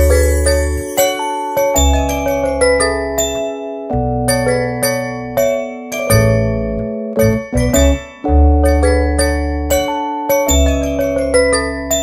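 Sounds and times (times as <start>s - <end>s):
bell-like melody: 0.0s - 12.0s.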